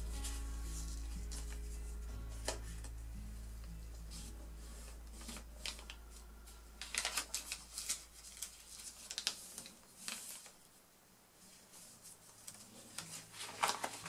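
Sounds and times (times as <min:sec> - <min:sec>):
paper rustling and crinkling: 0:00.0 - 0:03.0, 0:04.0 - 0:10.8, 0:11.4 - 0:14.0.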